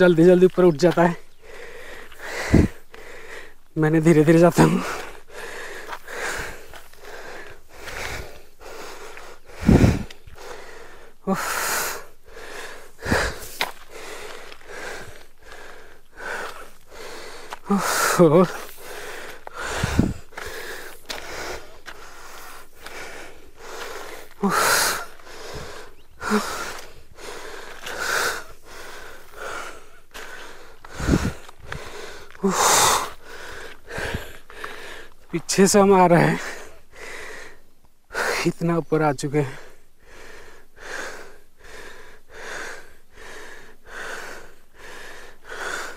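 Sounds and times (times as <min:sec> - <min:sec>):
man breathing hard: 0:01.1 - 0:03.8, 0:04.4 - 0:35.4, 0:36.0 - 0:38.5, 0:39.4 - 0:45.9.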